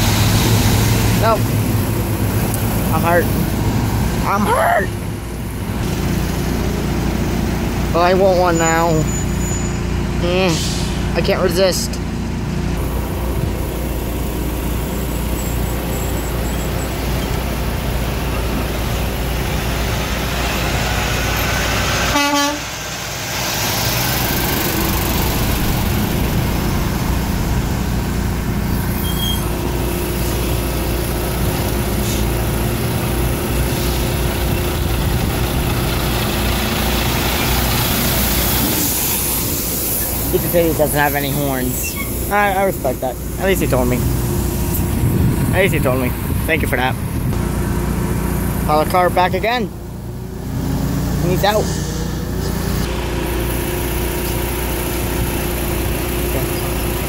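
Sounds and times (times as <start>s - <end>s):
diesel truck engine rumbling past: 0.0s - 57.0s.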